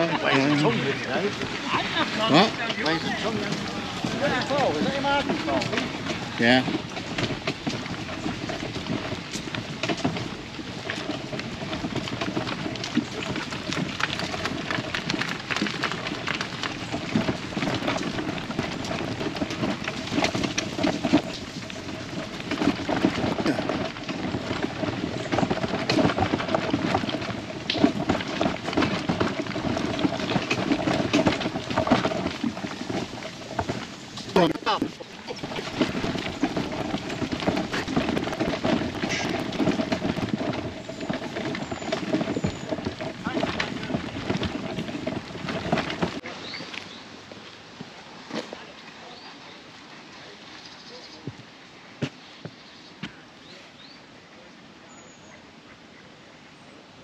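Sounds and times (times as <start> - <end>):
trolley wheels rattling on rough path: 0.0 - 56.0.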